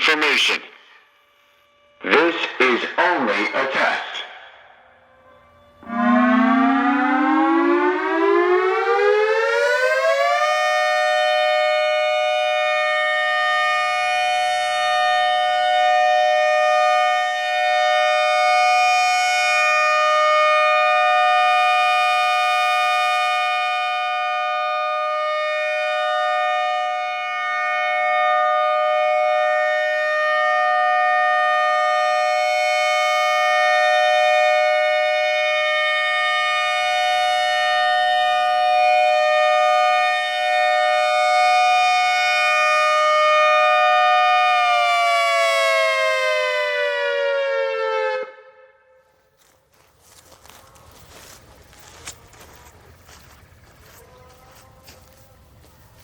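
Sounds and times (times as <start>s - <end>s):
electronic warning siren: 0.0s - 49.1s.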